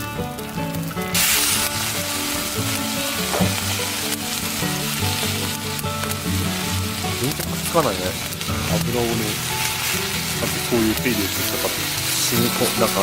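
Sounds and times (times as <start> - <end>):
egg sizzling in hot pan: 0.0 - 13.0.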